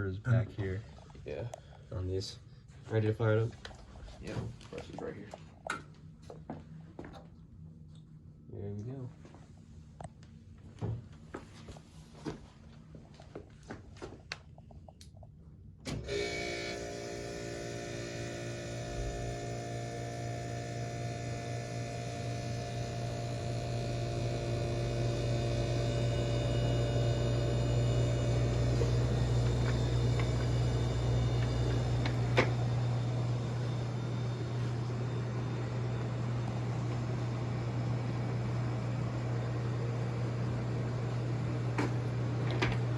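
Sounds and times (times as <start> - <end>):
air conditioner humming: 0.0 - 42.9.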